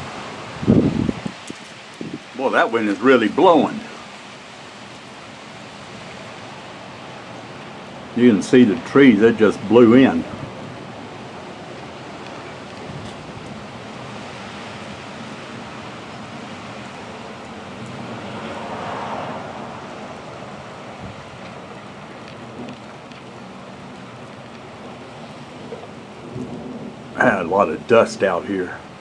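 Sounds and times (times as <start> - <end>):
strong gusty wind: 0.0 - 29.0.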